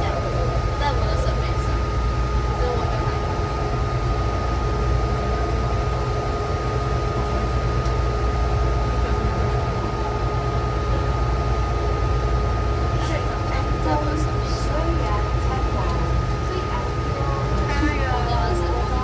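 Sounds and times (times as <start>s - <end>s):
high whine: 0.0s - 19.0s
train rumble: 0.0s - 19.0s.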